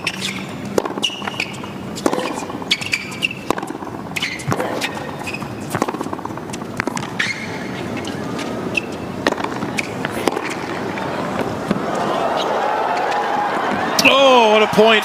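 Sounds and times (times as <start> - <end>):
sneakers squeaking on court: 0.0 - 14.0
racquets striking tennis ball: 0.0 - 15.0.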